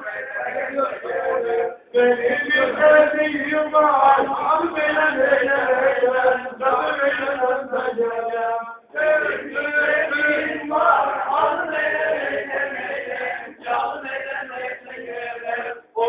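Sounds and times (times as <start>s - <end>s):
men singing together: 0.0s - 16.0s.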